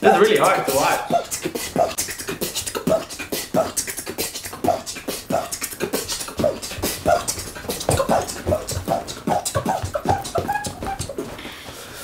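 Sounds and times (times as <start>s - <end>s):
man beatboxing: 0.0s - 11.4s.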